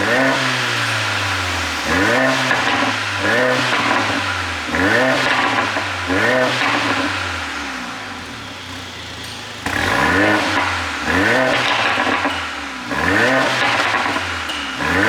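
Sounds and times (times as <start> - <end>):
car engine revving: 0.0 - 8.7, 9.6 - 15.0.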